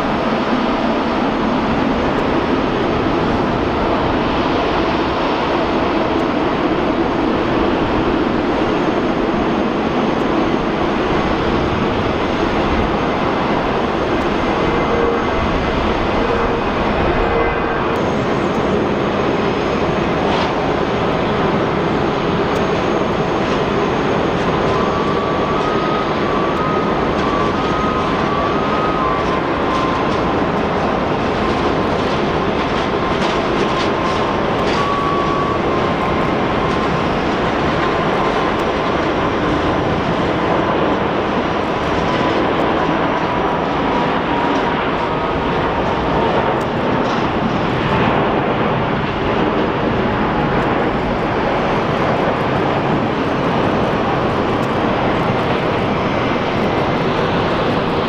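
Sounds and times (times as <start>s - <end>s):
jet engine whine: 0.0s - 58.0s
jet engines roaring: 0.0s - 58.0s.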